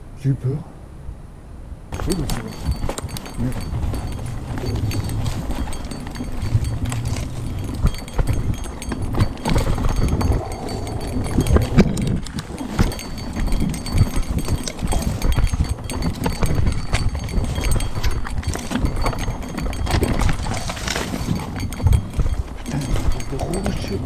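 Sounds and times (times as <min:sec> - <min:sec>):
bike rattling and knocking: 0:01.9 - 0:24.0
bike tyres rolling over stones: 0:01.9 - 0:24.0.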